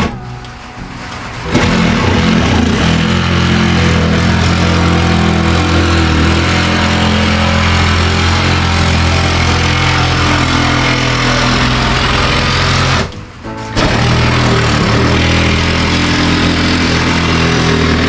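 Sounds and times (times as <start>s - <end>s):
reciprocating saw cutting wood: 1.5s - 13.1s, 13.8s - 18.0s.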